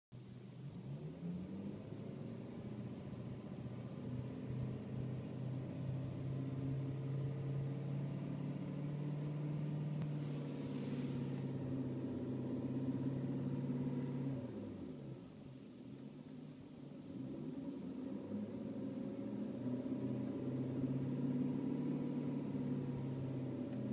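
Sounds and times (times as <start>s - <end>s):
car engine idling: 0.2s - 23.9s.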